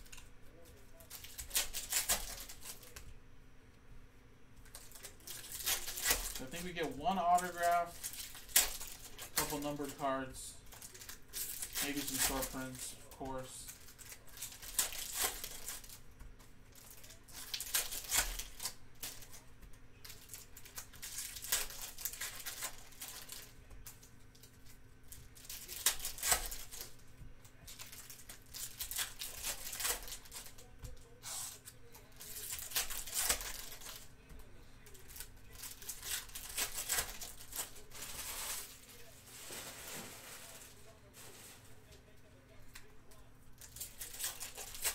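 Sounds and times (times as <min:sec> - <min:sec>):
foil wrappers tearing and crinkling: 0:00.0 - 0:03.0, 0:04.6 - 0:41.9, 0:43.6 - 0:44.9.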